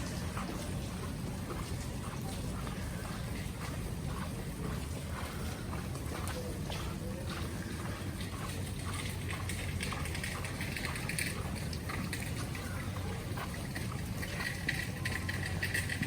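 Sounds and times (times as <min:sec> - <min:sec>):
steady low rumble: 0:00.0 - 0:16.0
water dripping and trickling: 0:00.0 - 0:16.0.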